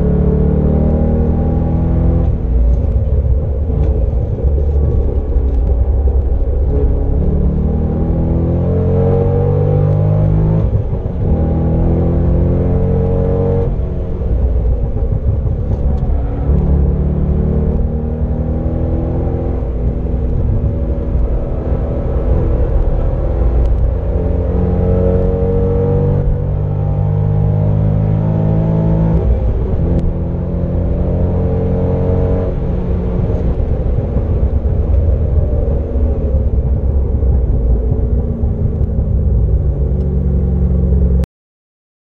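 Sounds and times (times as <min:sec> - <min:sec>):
wind noise: 0:00.0 - 0:40.7
car engine accelerating: 0:00.0 - 0:41.3.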